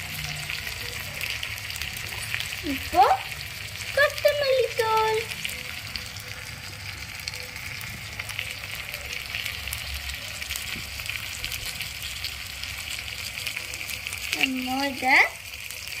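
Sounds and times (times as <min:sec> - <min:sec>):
food sizzling with crackles: 0:00.0 - 0:16.0.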